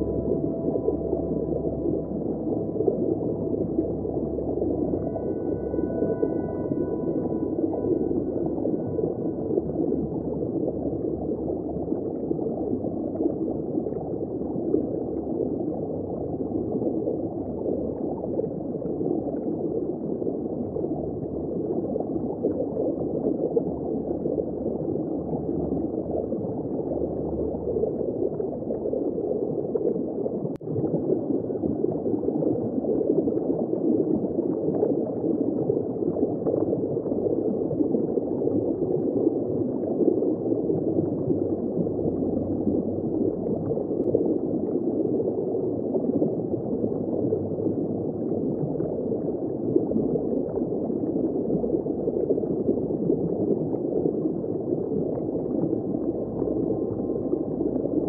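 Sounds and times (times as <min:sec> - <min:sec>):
muffled underwater water wash: 0:00.0 - 0:58.0.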